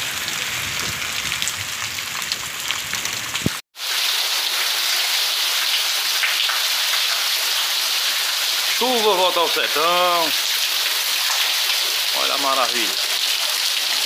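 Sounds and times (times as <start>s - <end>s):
heavy rain falling: 0.0s - 14.0s
rain pouring off roof onto concrete: 0.0s - 14.0s.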